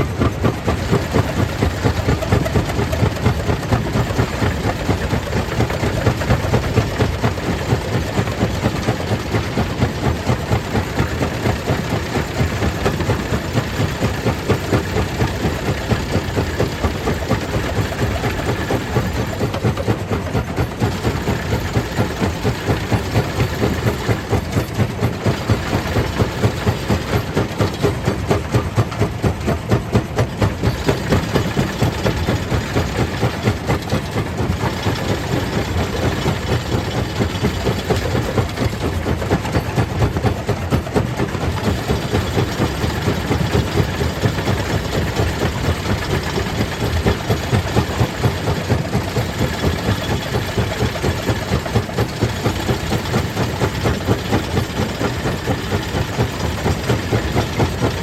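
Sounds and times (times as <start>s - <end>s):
stone crusher machinery pulsing: 0.0s - 58.0s.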